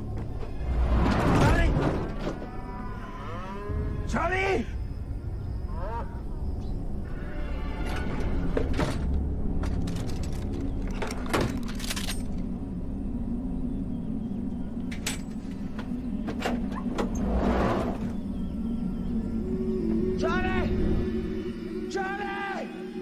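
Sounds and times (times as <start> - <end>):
low drone: 0.0 - 23.0.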